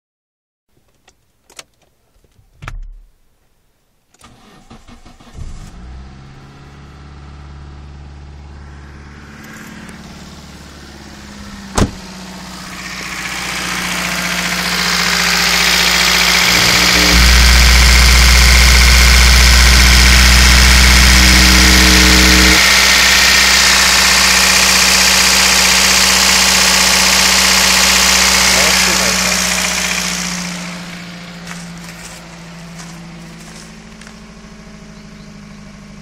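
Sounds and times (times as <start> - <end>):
car engine starting and running: 4.2 - 36.0.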